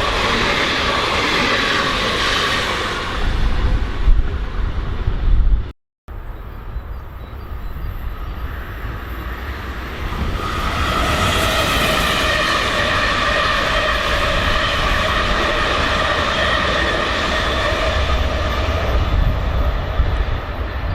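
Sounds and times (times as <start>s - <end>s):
high whine of train: 0.0s - 20.9s
train rumbling past: 0.0s - 20.9s.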